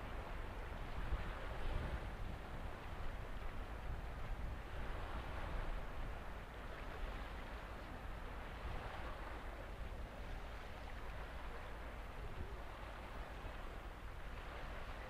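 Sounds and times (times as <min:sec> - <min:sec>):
ship low rumble: 0:00.0 - 0:15.0
ship wake churning water: 0:00.0 - 0:15.0
wind on microphone: 0:00.0 - 0:15.0.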